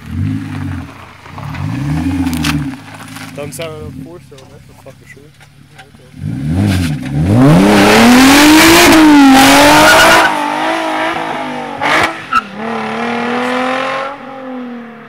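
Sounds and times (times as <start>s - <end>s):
loud car exhaust revving: 0.0s - 15.0s.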